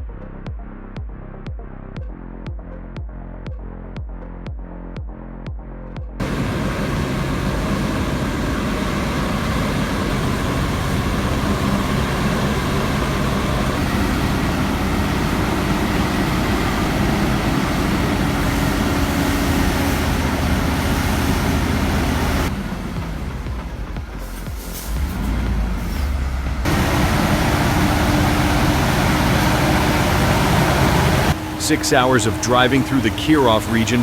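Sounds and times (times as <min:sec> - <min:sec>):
heavy truck engine running: 0:06.2 - 0:34.0.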